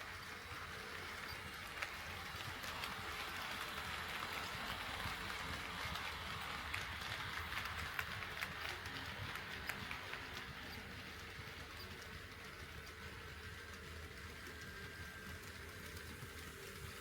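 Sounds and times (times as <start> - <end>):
model train motor and wheels whirring: 0.0 - 17.0.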